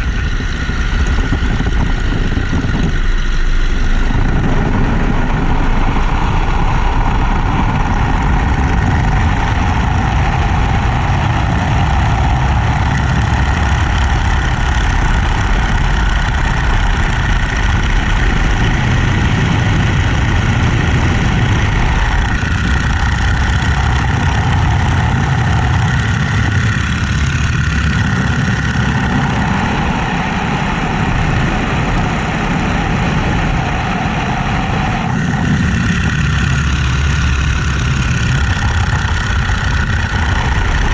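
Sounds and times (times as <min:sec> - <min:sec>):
biplane radial engine in flight: 0:00.0 - 0:40.9
rushing air noise: 0:00.0 - 0:40.9.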